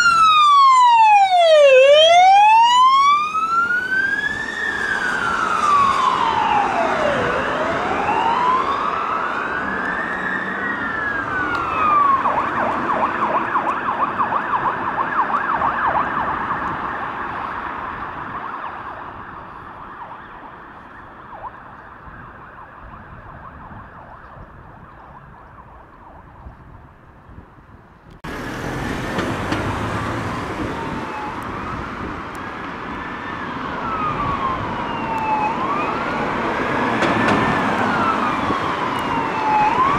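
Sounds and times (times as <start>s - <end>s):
police siren wailing: 0.0s - 26.6s, 28.3s - 39.9s
road traffic: 0.0s - 39.9s.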